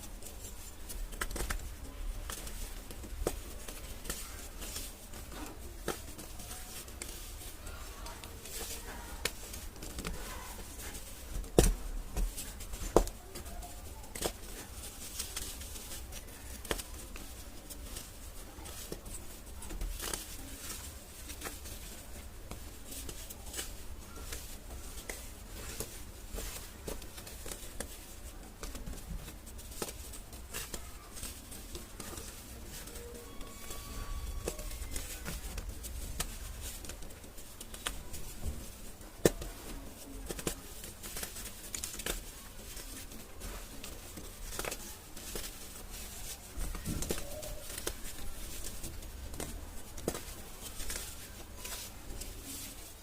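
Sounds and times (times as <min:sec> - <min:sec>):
clay crunching and crackling: 0:00.0 - 0:53.0.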